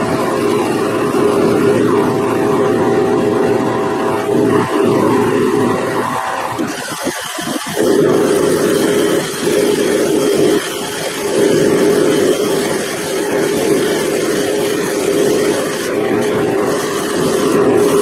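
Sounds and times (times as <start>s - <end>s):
grinder motor hum: 0.0s - 18.0s
wire wheel scratching metal: 0.0s - 18.0s.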